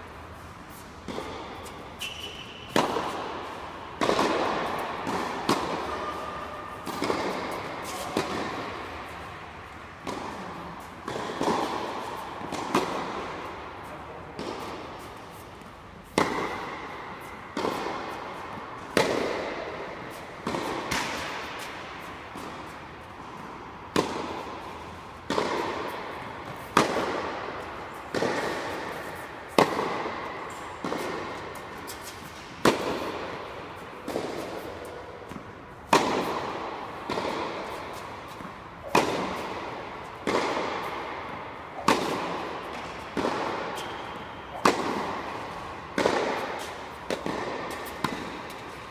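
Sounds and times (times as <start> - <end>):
tennis ball bounces: 0.7 - 48.9
tennis racket strikes: 0.7 - 48.9.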